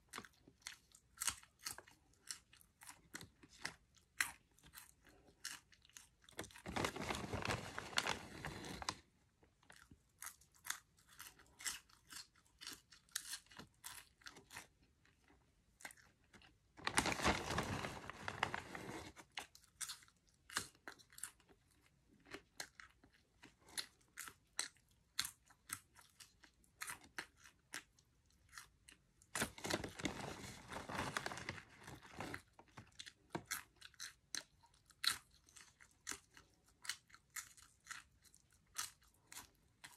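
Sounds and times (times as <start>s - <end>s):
popcorn crunching and chewing: 0.0s - 39.9s.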